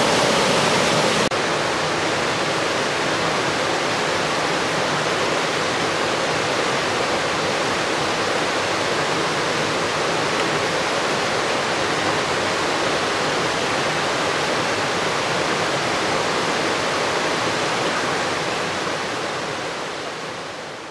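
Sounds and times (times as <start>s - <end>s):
stream rushing over rapids: 0.0s - 20.9s.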